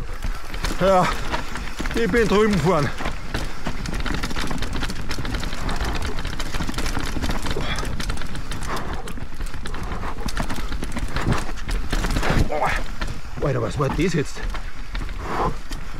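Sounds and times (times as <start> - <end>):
bike tyres rumbling over ground: 0.0 - 15.9
chain and frame rattling: 0.0 - 15.9.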